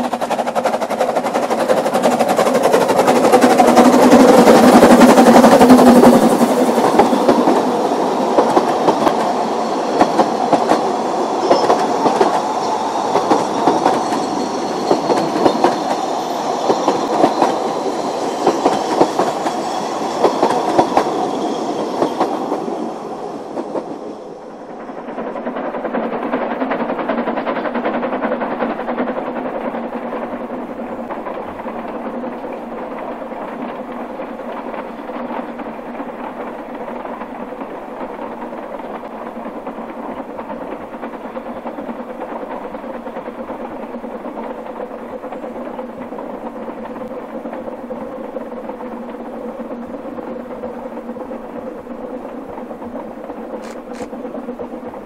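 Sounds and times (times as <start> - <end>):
train wheels clattering over rail joints: 0.0 - 22.9, 24.7 - 55.0
steam locomotive working: 0.0 - 55.0.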